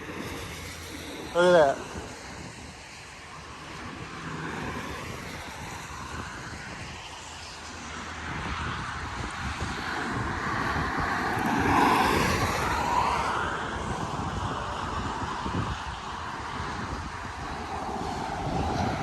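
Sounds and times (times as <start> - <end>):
gusty wind buffeting microphone: 0.0 - 19.0.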